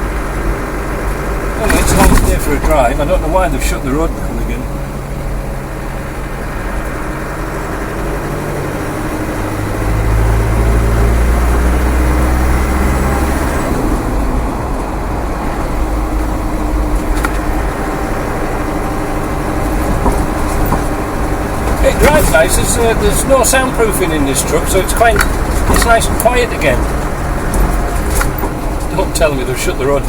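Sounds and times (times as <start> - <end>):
diesel engine running: 0.0 - 30.0
road noise: 0.0 - 30.0.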